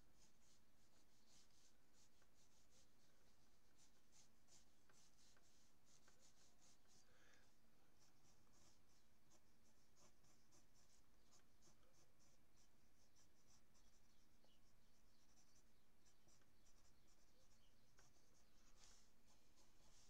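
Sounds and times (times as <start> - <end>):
pencil scratching on paper: 0.2 - 20.0.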